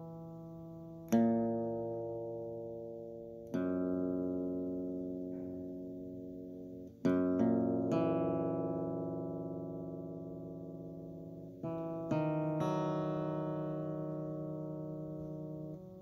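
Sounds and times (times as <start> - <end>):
slow instrumental chords ringing: 0.0 - 16.0.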